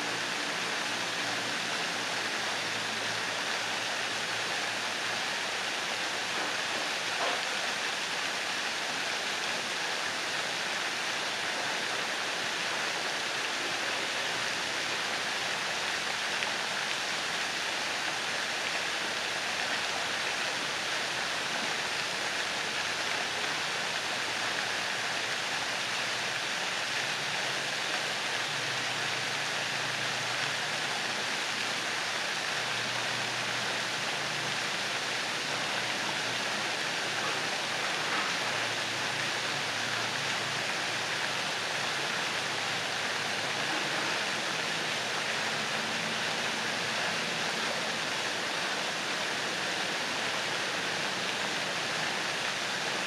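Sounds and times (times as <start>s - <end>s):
fountain jets splashing into pond: 0.0s - 53.0s.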